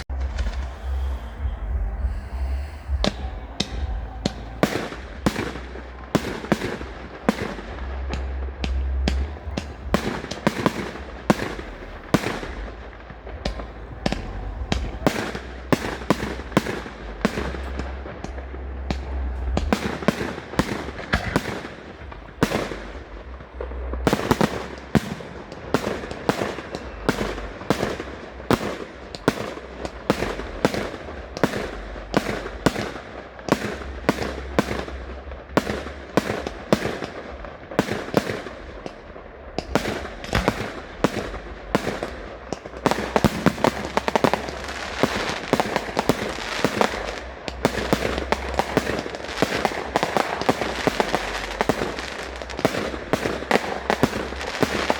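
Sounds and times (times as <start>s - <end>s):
fireworks bangs and booms: 0.0s - 54.9s.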